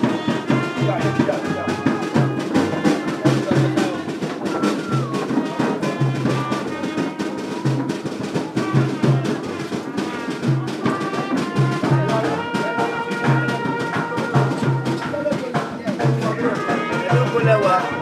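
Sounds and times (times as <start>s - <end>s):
brass melody: 0.0s - 18.0s
drum and bass beat: 0.0s - 18.0s.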